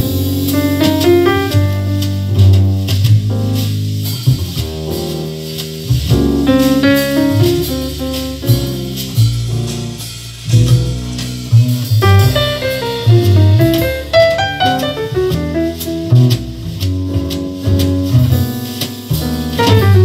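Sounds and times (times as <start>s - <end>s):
instrumental music with guitar: 0.0s - 20.0s
strong bass line: 0.0s - 20.0s.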